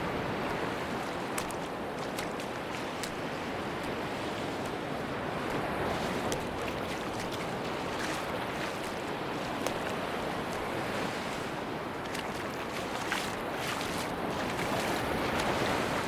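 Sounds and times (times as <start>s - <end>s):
sea surf washing on beach: 0.0s - 16.0s.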